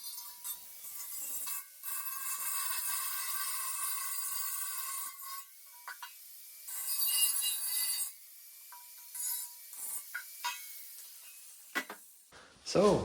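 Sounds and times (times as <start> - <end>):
power tool grinding steel: 0.0 - 12.0.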